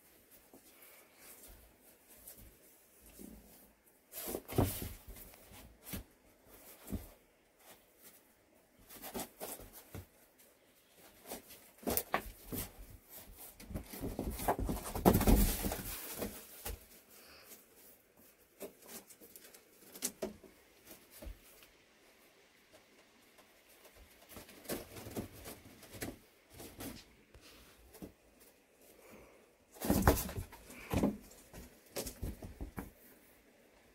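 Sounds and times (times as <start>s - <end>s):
kittens scuffling on boards: 0.2s - 8.2s, 8.8s - 21.6s, 22.8s - 27.1s, 29.7s - 33.2s.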